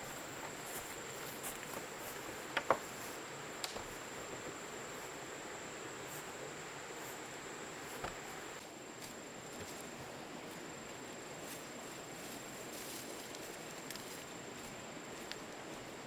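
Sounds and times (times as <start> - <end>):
faint rainforest ambience: 0.0 - 16.0.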